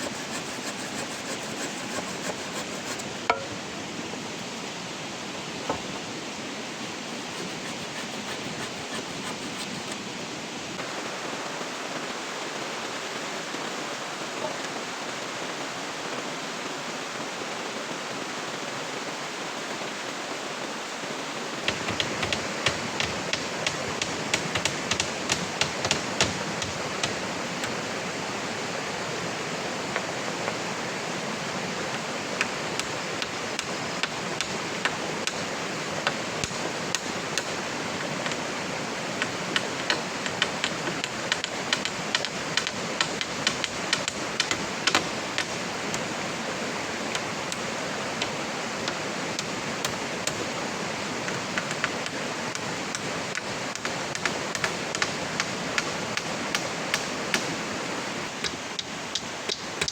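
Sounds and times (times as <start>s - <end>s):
heavy rain: 9.8s - 59.9s.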